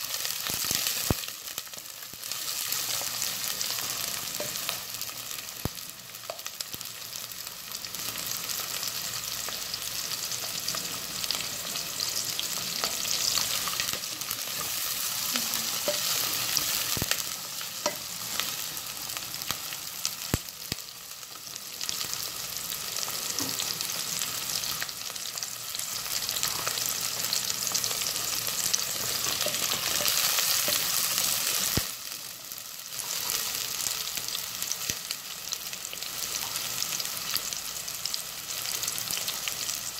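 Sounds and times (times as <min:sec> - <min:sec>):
onion and garlic sizzling: 0:00.0 - 0:39.9.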